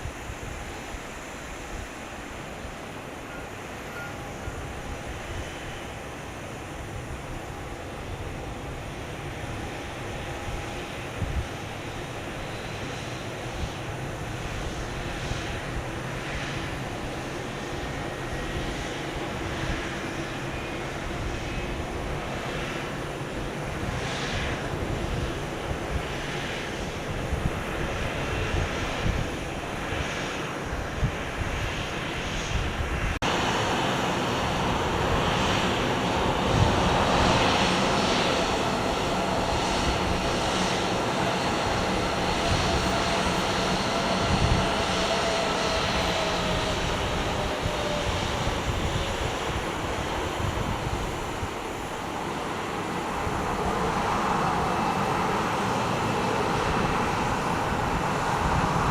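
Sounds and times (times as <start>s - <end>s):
faint engine whine: 0.0s - 58.9s
jet engines rushing: 0.0s - 58.9s.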